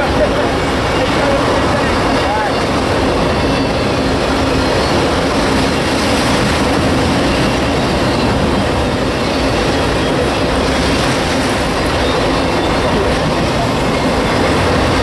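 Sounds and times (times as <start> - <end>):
freight train wheels clattering on rails: 0.0 - 15.0.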